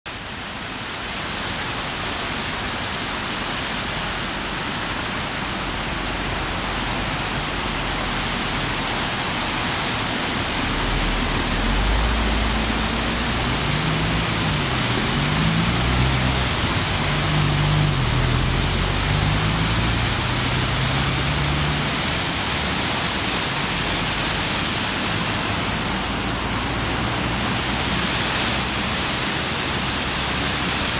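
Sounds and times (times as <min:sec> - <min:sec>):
water rushing over dam spillway: 0:00.1 - 0:30.9.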